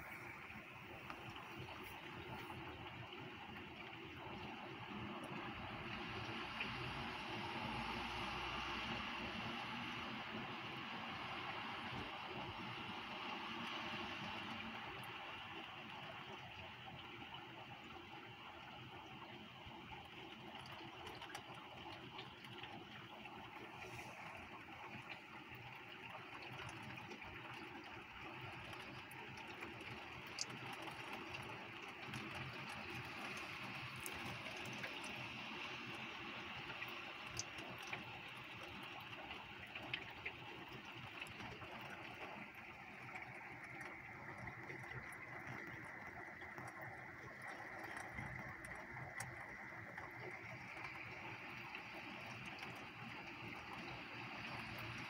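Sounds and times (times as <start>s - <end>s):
raindrops ticking on surfaces: 0.0s - 55.0s.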